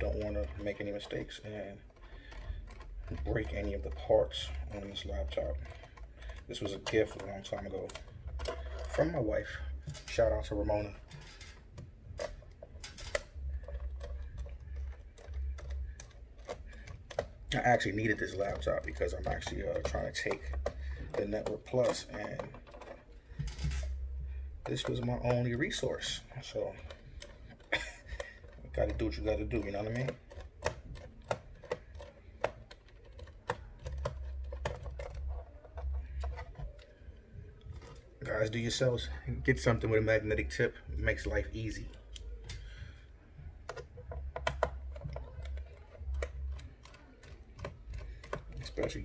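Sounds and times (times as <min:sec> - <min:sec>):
screwdriver clicking on plastic case: 0:00.0 - 0:24.0, 0:24.6 - 0:36.9, 0:43.4 - 0:49.0.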